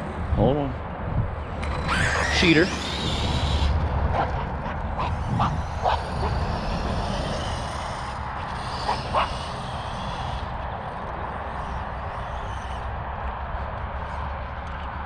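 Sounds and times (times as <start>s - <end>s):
wind rumble on microphone: 0.0s - 15.0s
distant rc truck running: 1.4s - 15.0s.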